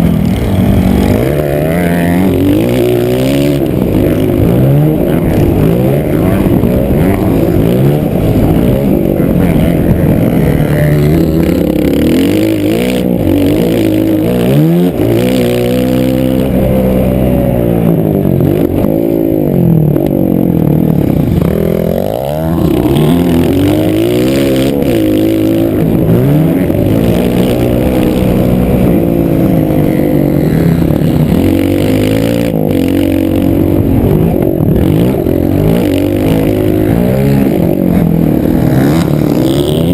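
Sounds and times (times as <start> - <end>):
motocross bike engine accelerating: 0.0 - 39.9.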